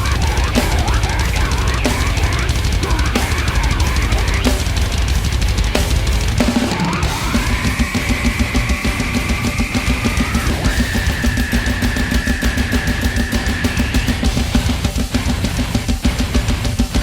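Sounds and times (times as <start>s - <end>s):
fast drumming with bass drum: 0.0s - 17.0s
heavy metal band: 0.0s - 17.0s.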